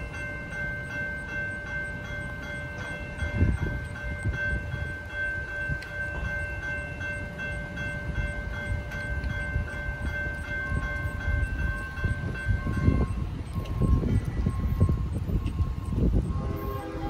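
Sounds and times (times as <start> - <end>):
railroad crossing bells ringing: 0.0 - 17.0.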